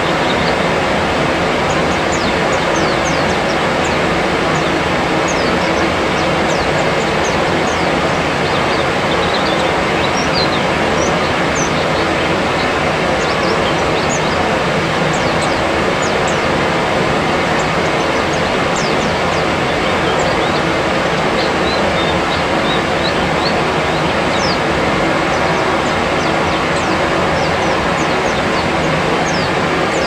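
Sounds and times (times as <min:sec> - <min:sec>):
loud rushing noise: 0:00.0 - 0:30.0
small birds chirping: 0:00.0 - 0:30.0.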